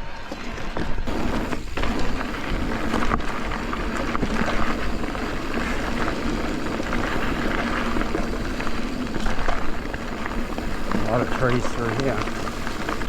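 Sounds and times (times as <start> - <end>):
wind rumbling on microphone: 0.0 - 13.0
tyres crackling over gravel: 1.0 - 13.0.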